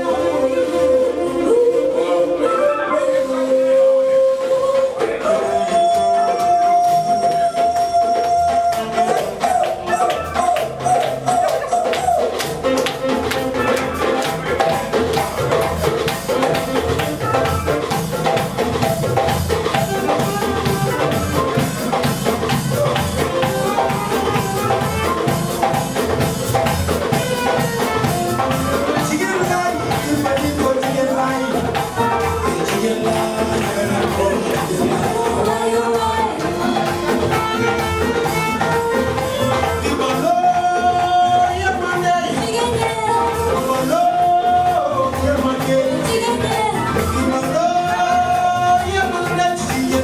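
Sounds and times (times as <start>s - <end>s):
hand drum beat: 0.0s - 50.0s
live band playing a groove: 0.0s - 50.0s.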